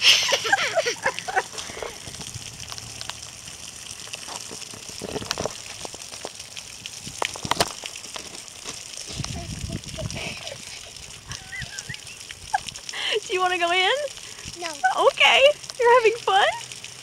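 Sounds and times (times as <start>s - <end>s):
rain drips and splashes: 0.0s - 17.0s
steady rain hiss: 0.0s - 17.0s.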